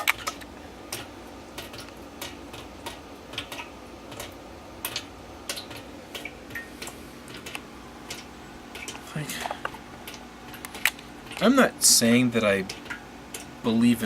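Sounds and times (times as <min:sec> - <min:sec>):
water dripping into a drum: 0:00.0 - 0:14.0.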